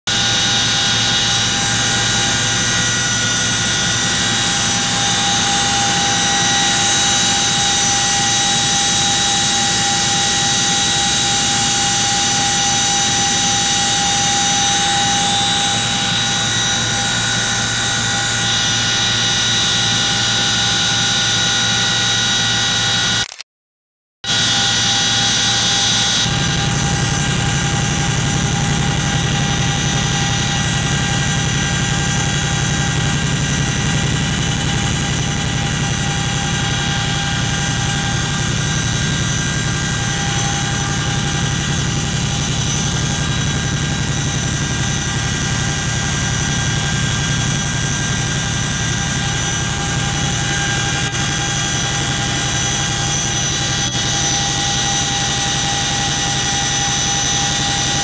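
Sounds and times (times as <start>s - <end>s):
helicopter engine whine: 0.1s - 23.3s, 24.2s - 58.0s.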